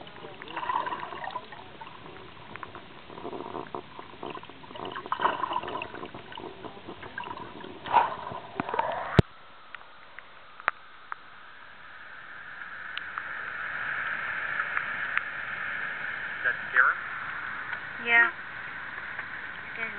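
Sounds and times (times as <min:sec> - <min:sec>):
underwater gurgling and clicks: 0:00.0 - 0:11.8, 0:12.5 - 0:19.9
faint steady hush: 0:00.0 - 0:19.9.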